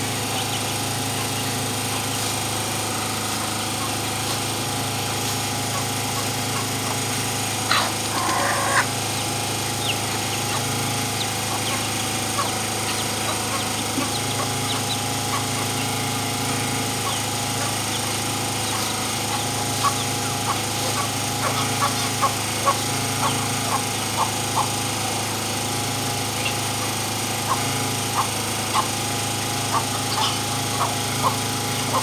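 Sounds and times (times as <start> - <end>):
chickens clucking: 0.0 - 32.0
machine humming: 0.0 - 32.0.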